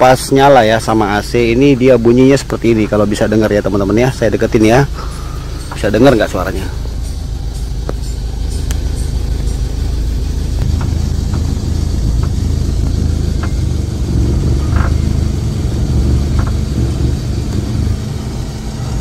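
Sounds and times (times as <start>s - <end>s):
car engine idling: 0.0s - 19.0s
radiator fan running: 0.0s - 19.0s.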